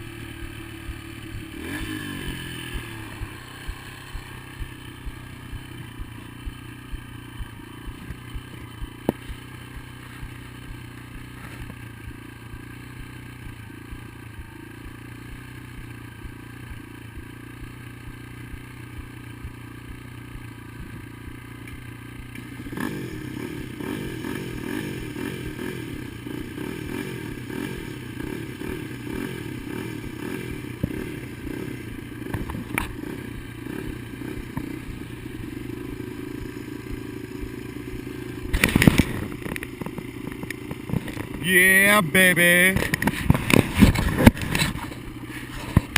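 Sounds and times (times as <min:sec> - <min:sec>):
dirt bike engine: 0:00.0 - 0:45.9.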